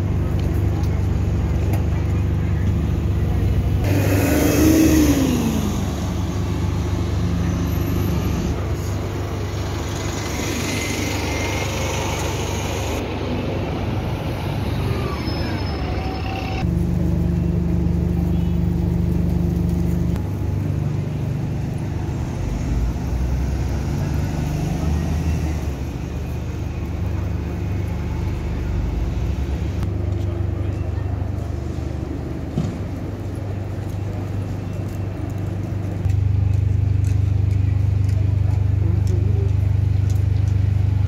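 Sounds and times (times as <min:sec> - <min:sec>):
buses and vehicles passing: 0:00.0 - 0:41.0.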